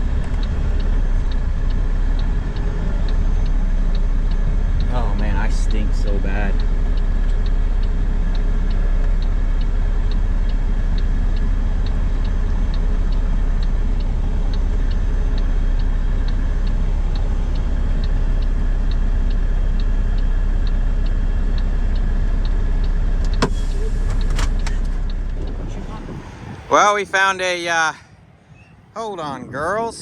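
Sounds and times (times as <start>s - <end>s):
turn signal ticking: 0.0s - 27.9s
engine and road rumble: 0.0s - 30.0s.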